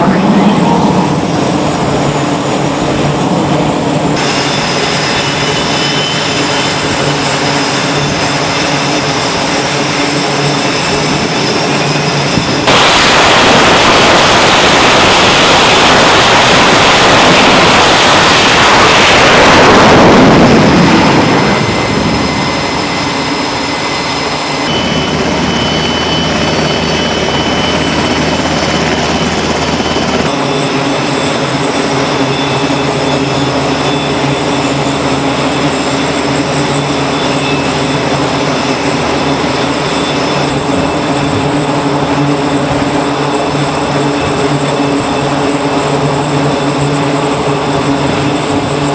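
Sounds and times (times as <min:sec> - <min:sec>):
helicopter turbines and rotor: 0:00.0 - 0:48.9
jet roaring at full power: 0:00.0 - 0:48.9.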